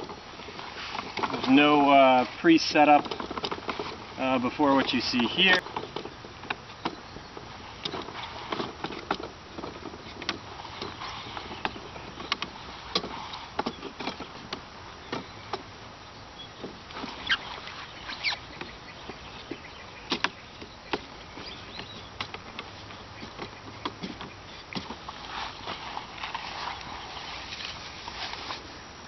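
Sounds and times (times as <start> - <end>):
wooden poles clicking and knocking: 0.0 - 28.7
steady background hiss: 0.0 - 29.0.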